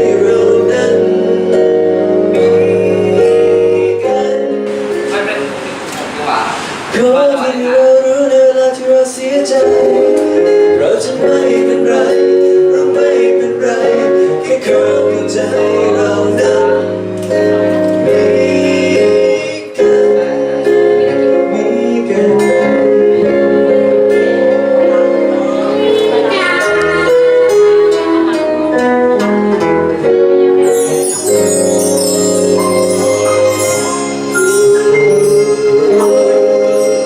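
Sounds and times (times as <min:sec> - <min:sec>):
live band song through speakers: 0:00.0 - 0:37.0.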